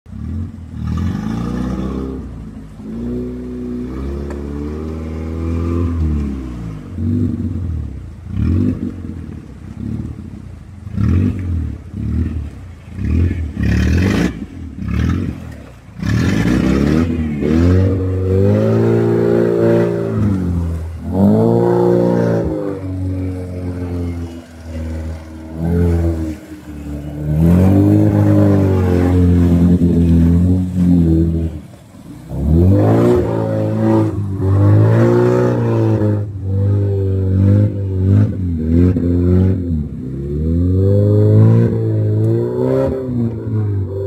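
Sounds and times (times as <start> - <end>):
car engine revving: 0.0 - 44.0
water splashing around tyres: 0.1 - 44.0.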